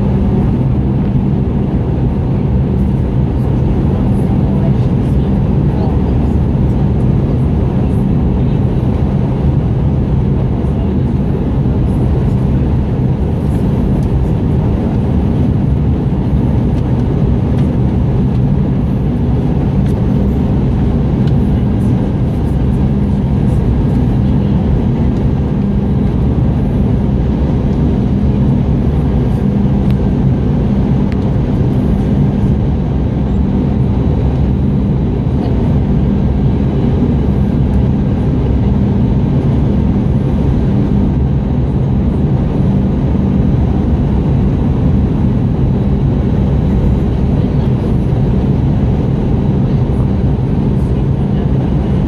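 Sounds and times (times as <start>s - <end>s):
airplane cabin rumble: 0.0s - 52.0s.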